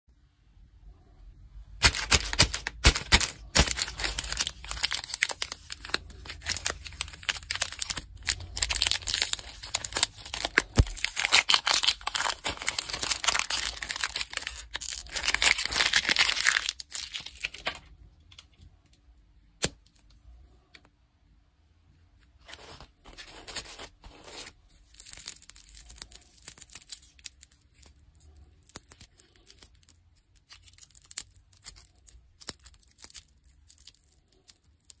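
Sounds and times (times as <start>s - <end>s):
lollipop wrapper crinkling: 1.8s - 17.9s, 22.6s - 35.0s
plastic wrapper crinkling: 1.8s - 18.4s, 22.4s - 35.0s.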